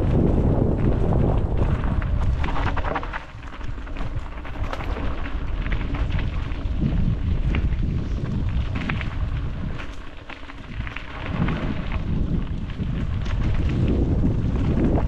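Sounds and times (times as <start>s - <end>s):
bike rattling and clicking: 0.0s - 15.0s
tyres crunching on dirt: 0.0s - 15.0s
wind rumbling on microphone: 0.0s - 15.0s.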